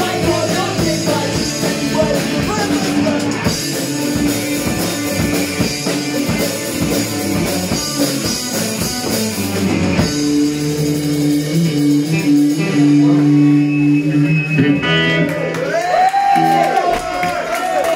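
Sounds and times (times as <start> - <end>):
bass guitar: 0.0 - 17.9
drum kit: 0.0 - 17.9
electric guitar: 0.0 - 17.9.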